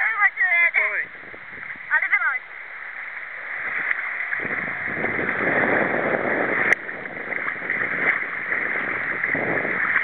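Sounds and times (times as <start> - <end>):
water splashing and sloshing: 0.0 - 10.0.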